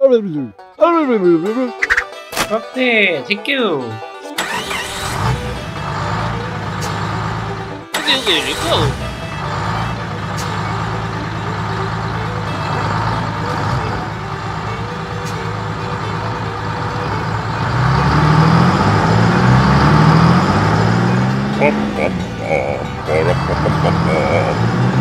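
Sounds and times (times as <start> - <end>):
motor running and revving: 4.6 - 25.0.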